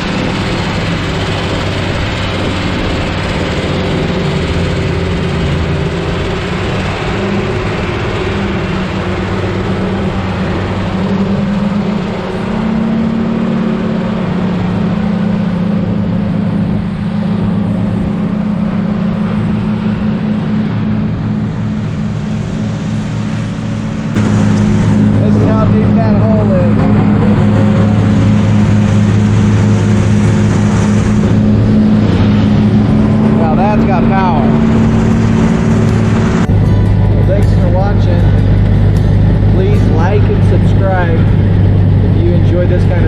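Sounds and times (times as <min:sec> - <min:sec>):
diesel truck engine running: 0:00.0 - 0:43.0.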